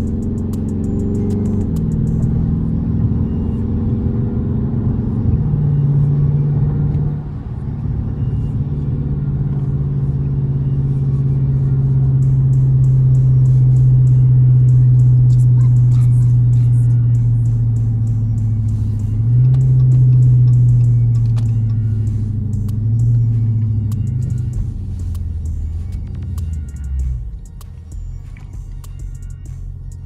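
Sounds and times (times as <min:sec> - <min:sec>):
car engine droning while driving: 0:00.0 - 0:30.0.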